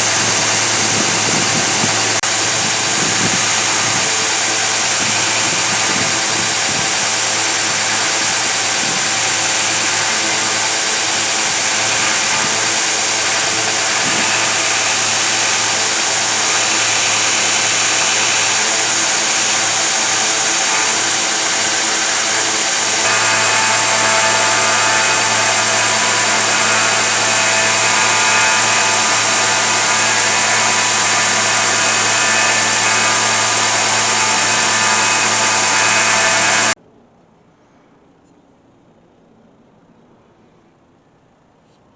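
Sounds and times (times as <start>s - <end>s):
electric power tool running: 0.0s - 36.8s.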